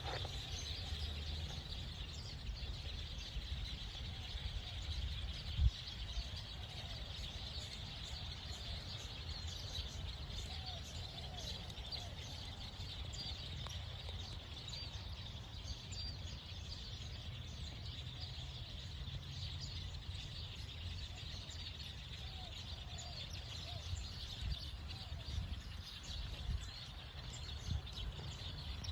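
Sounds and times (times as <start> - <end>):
flock of birds chirping: 0.0 - 28.9.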